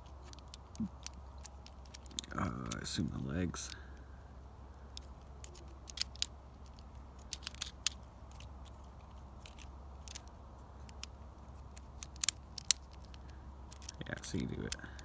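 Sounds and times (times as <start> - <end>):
plastic toy parts clicking: 0.1 - 2.9, 4.9 - 15.0.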